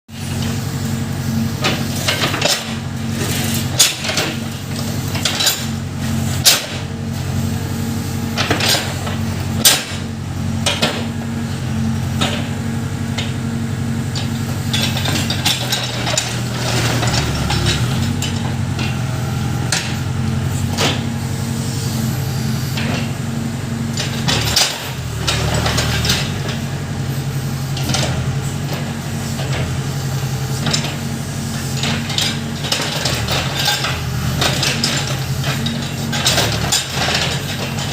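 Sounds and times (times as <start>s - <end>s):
backhoe engine running: 0.1s - 37.9s.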